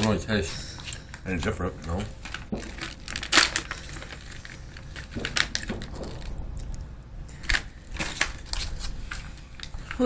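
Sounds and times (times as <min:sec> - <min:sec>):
food packaging crinkling: 0:00.0 - 0:10.0.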